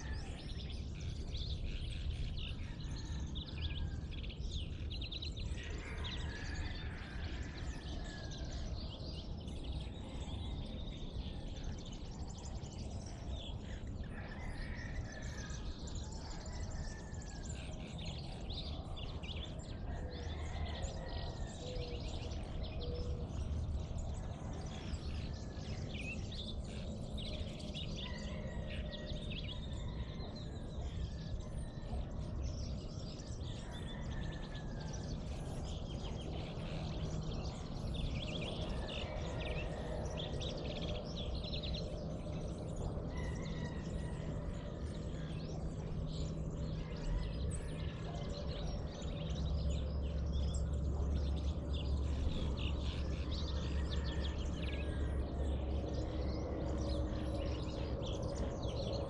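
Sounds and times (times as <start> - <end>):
birds chirping and calling: 0.0 - 59.0
steady low rumble: 0.0 - 59.0.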